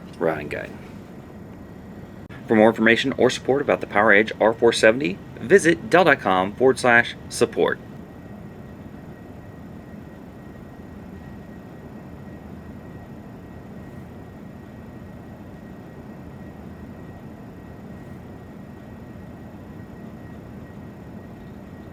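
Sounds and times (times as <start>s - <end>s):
faint high steady tone: 0.0s - 21.9s
low hum and hiss: 0.0s - 21.9s.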